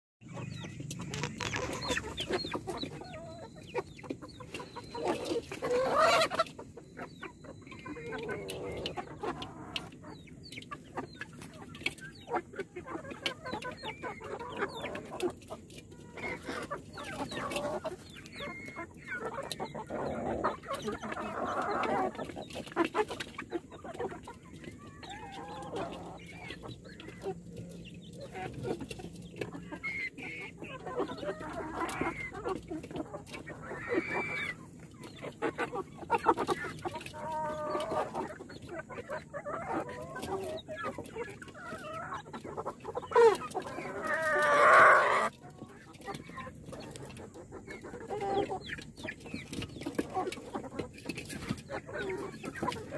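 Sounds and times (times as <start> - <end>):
chickens calling: 0.2 - 52.9.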